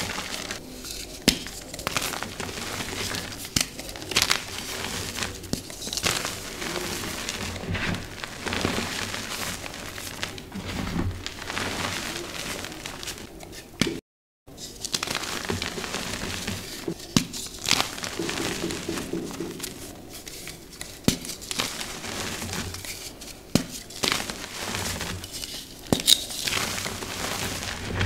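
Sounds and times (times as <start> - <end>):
chalk crunching and crackling: 0.0 - 28.0.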